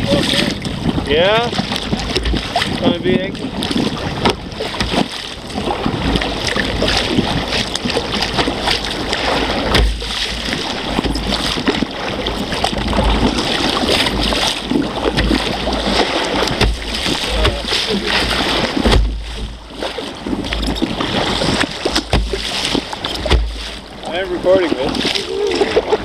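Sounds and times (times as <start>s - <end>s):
waves slapping against kayak hull: 0.0s - 26.0s
wind rumbling on microphone: 0.0s - 26.0s.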